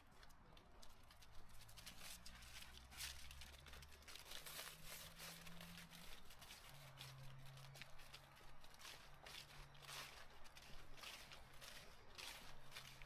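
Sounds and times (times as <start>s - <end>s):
footsteps crunching through dry leaves: 0.2s - 13.0s.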